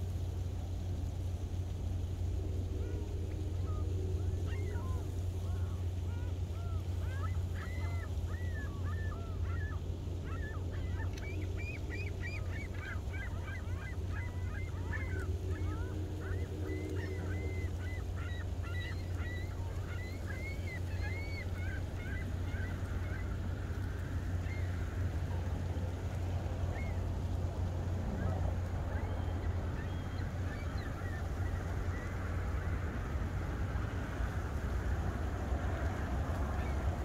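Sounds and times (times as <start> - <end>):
flock of waterbirds calling: 0.0 - 37.0
steady low rumble: 0.0 - 37.0.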